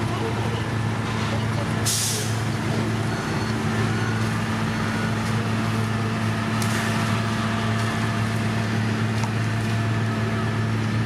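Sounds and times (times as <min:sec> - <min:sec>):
heavy machinery engine droning: 0:00.0 - 0:11.0.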